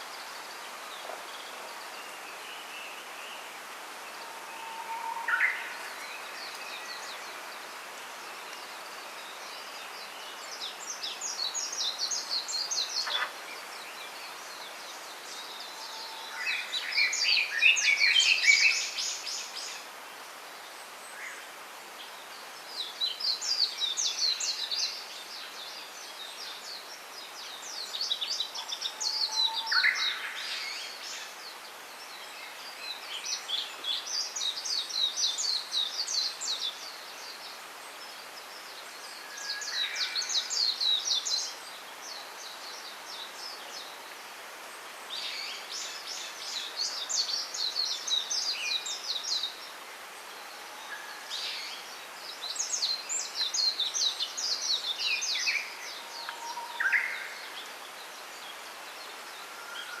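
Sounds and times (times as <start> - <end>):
faint hiss: 0.0 - 60.0.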